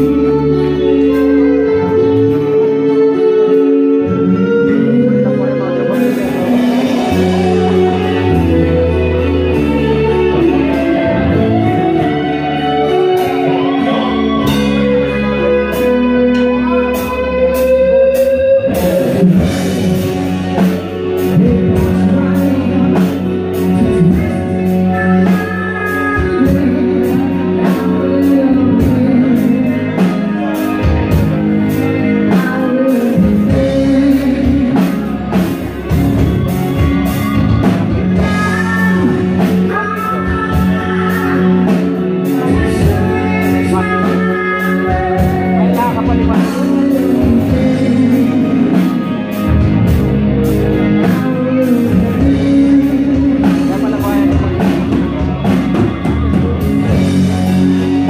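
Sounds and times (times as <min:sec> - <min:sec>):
bass guitar: 0:00.0 - 0:58.0
drums: 0:00.0 - 0:58.0
electric guitar lead line: 0:00.0 - 0:58.0.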